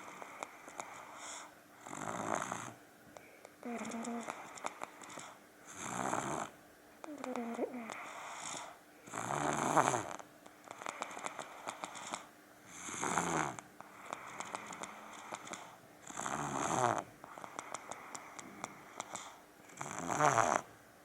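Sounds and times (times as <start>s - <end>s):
crackling breaths: 0.0s - 6.5s, 7.1s - 20.6s
child snoring loudly: 1.0s - 2.8s, 3.6s - 10.2s, 10.8s - 17.7s, 19.0s - 20.7s.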